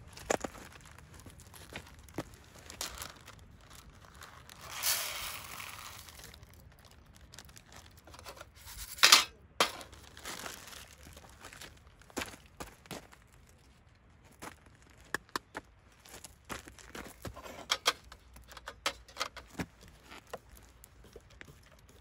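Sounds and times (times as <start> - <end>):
crinkling and rustling: 0.0 - 15.2, 16.2 - 22.0.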